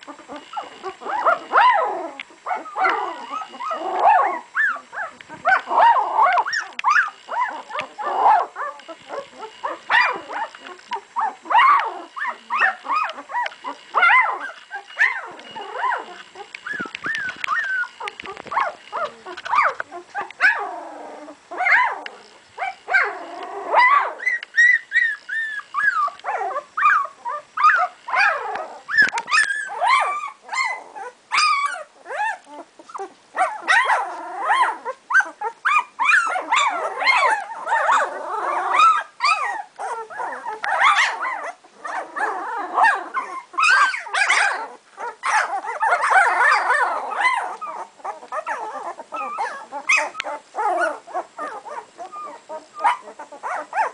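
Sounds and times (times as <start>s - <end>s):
puppies whining and yelping: 0.0s - 53.9s.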